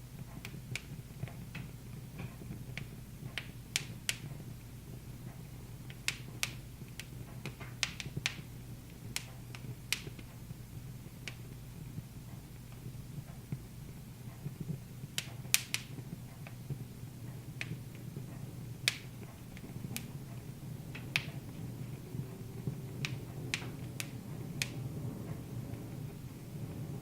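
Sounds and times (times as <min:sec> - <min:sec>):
low steady hum: 0:00.0 - 0:27.0
wood fire crackling: 0:00.0 - 0:27.0.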